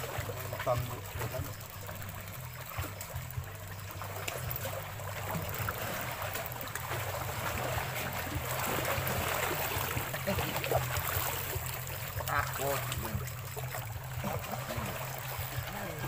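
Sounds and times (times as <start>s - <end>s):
waves lapping against rocks: 0.0s - 16.0s.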